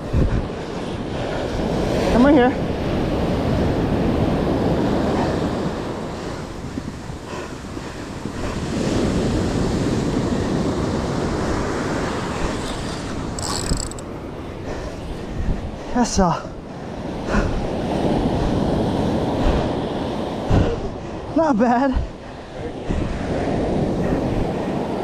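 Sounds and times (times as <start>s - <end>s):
wind buffeting microphone: 0.0s - 16.0s, 16.6s - 25.0s
surf washing on shore: 0.0s - 25.0s.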